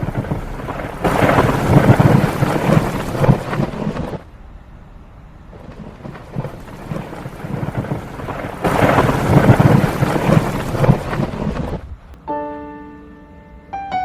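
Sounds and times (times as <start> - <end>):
steady rain: 0.0 - 12.2
thunder rumbling: 0.0 - 12.2.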